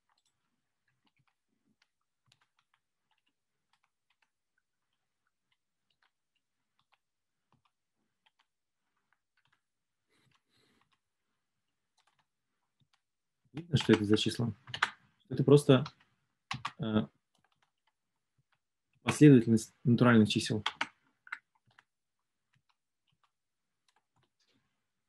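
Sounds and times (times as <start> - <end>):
soft keyboard typing: 0.0 - 11.0, 11.8 - 13.0, 13.6 - 24.6.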